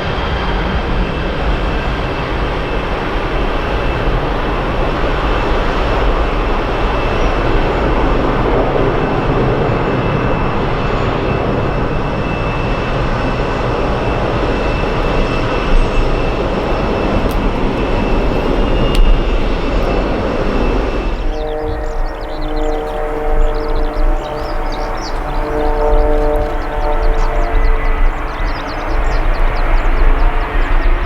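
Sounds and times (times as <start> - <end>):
high engine whine: 0.0 - 31.0
jet airliner engines passing: 0.0 - 31.0.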